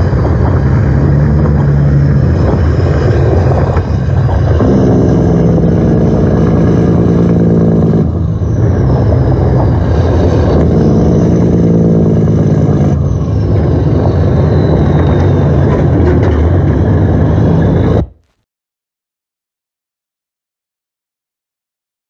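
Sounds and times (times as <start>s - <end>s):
heavy truck engine running: 0.0s - 18.4s.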